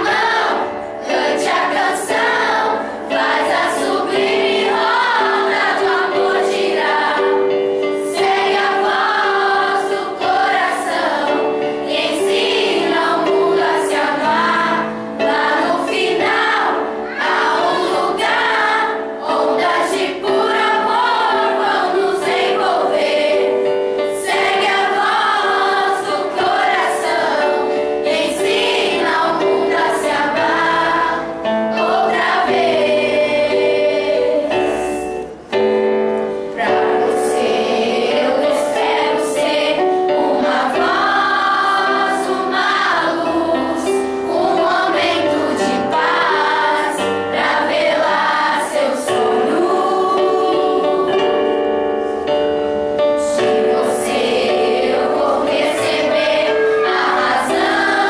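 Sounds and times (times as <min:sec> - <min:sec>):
choir singing: 0:00.0 - 0:35.4, 0:36.5 - 0:58.0.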